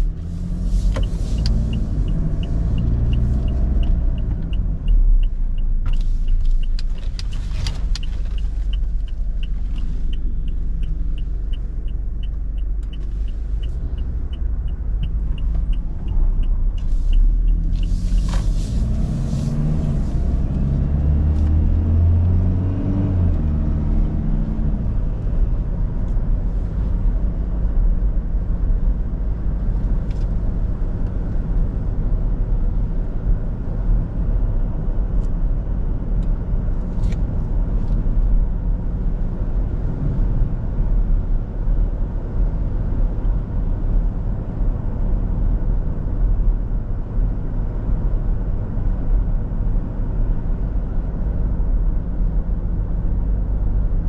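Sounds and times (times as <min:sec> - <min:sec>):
turn signal ticking: 0:00.0 - 0:45.4
diesel car engine rumble: 0:00.0 - 0:54.0.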